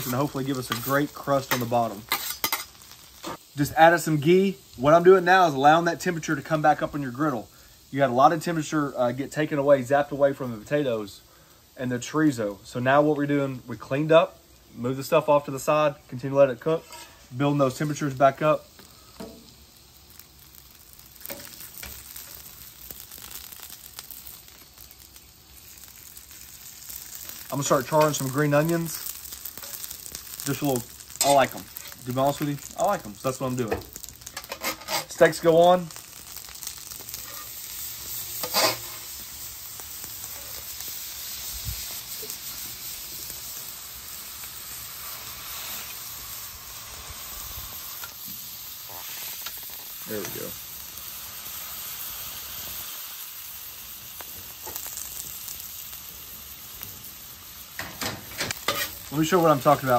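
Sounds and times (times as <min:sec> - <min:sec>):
food sizzling on griddle: 0:00.0 - 0:59.9.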